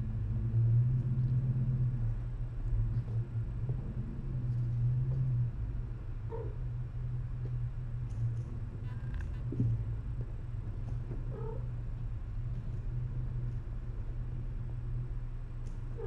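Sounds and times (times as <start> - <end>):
cats purring: 0.7 - 6.8, 7.4 - 16.0.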